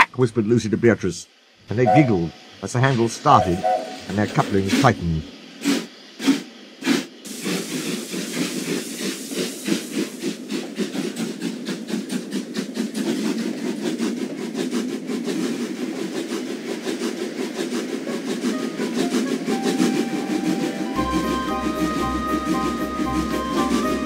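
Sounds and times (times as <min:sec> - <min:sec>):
coaches rumbling over rails: 0:01.7 - 0:05.6, 0:07.3 - 0:24.0
steam engine chuffing: 0:01.7 - 0:24.0.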